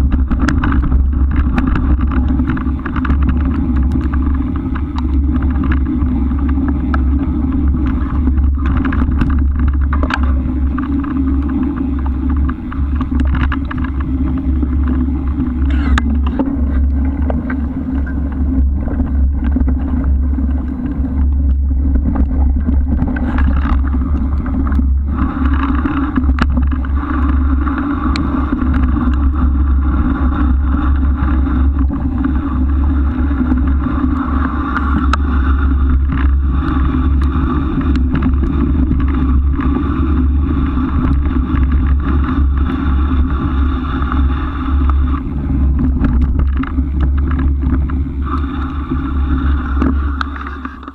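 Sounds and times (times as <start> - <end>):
low riding rumble: 0.0 - 50.9
steady hum: 0.0 - 50.9.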